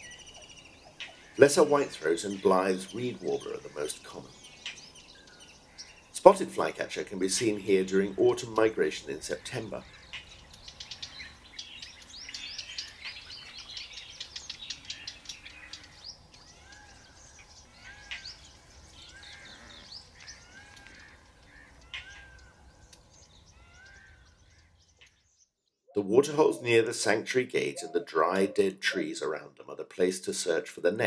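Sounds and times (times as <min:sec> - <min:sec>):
birds chirping and twittering: 0:00.0 - 0:31.0.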